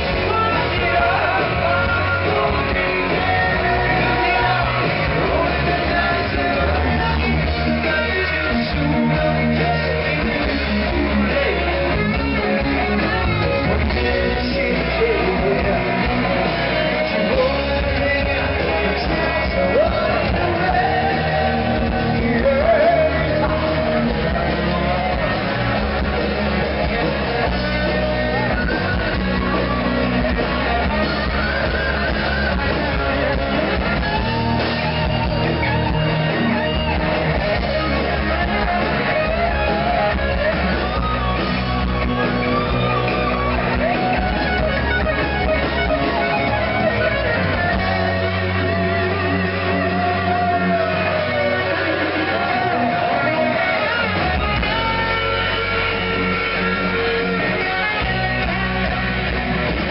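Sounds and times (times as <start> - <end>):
live rock band playing: 0.0 - 59.9
person singing lead vocal: 0.0 - 59.9.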